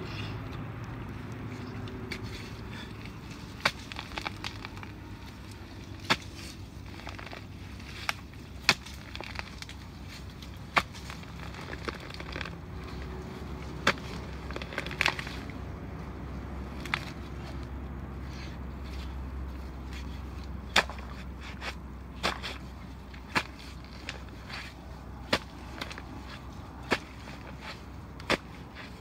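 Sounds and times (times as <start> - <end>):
steady low rumble: 0.0 - 29.0
digging tool striking roots: 1.9 - 15.5, 16.6 - 17.7, 18.3 - 29.0.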